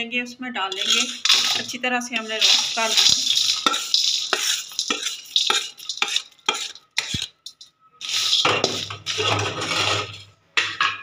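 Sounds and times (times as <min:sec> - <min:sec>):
nuts rattling into steel tray: 0:00.7 - 0:10.3
nuts rustling: 0:00.7 - 0:10.3
spatula scraping nuts from pan: 0:00.7 - 0:10.8.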